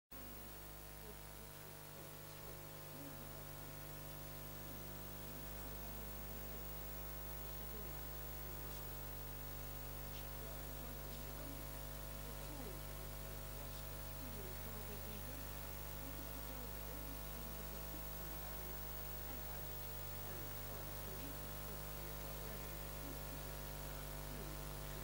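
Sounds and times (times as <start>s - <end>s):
faint electrical hum: 0.1s - 25.0s.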